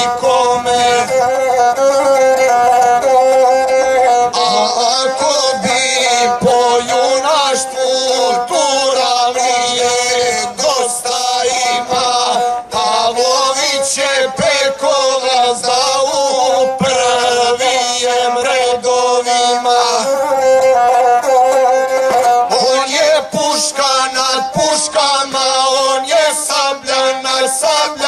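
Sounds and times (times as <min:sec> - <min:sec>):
bowed fiddle melody: 0:00.0 - 0:28.0
person singing epic song: 0:00.0 - 0:28.0.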